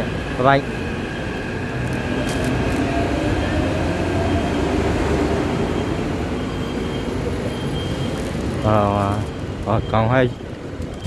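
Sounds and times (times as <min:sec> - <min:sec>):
faint whining tones: 0:00.0 - 0:11.0
metro train rumble: 0:00.0 - 0:11.0.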